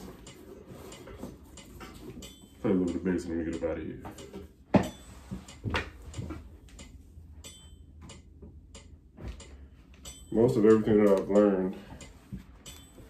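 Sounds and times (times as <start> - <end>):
steady low amp hum: 0.0 - 13.0.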